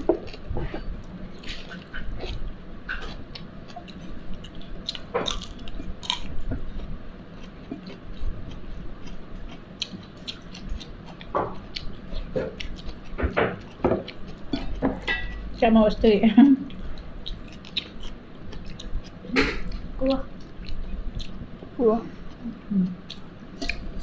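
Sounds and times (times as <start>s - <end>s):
person chewing: 0.0s - 15.6s, 16.6s - 24.0s.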